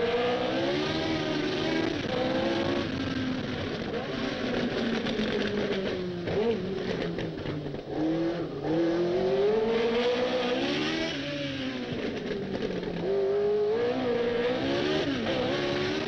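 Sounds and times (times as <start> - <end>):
racing engine revving: 0.0 - 12.1, 12.8 - 16.0.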